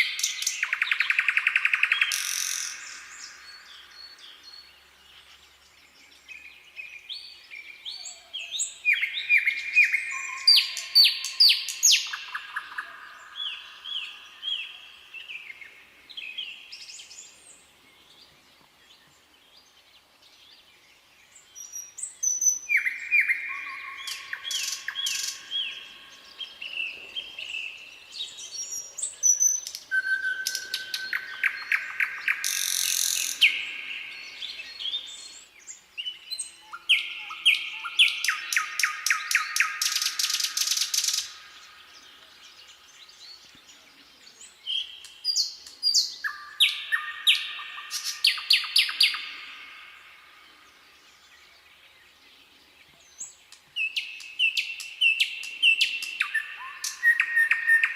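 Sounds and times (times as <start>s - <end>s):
nightingale singing: 0.0s - 57.9s.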